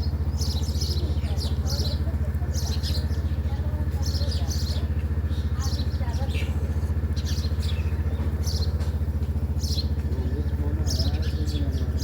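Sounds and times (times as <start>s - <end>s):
idling engine hum: 0.0s - 12.0s
small birds chirping: 0.0s - 12.0s.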